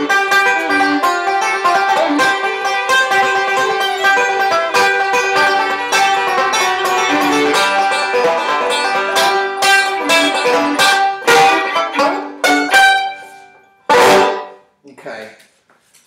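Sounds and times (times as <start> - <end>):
banjo music: 0.0 - 14.7.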